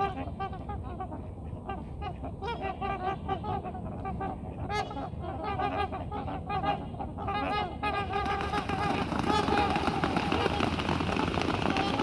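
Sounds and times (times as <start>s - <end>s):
swans honking: 0.0s - 12.0s.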